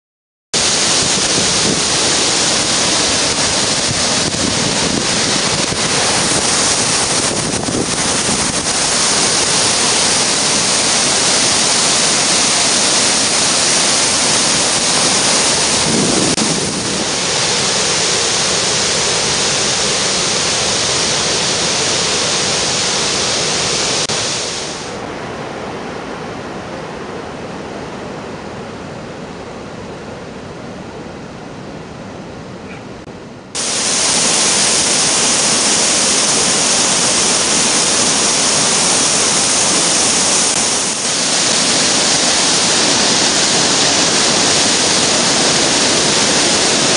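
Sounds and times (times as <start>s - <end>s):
rush of whitewater: 0.6s - 31.8s, 32.7s - 46.9s.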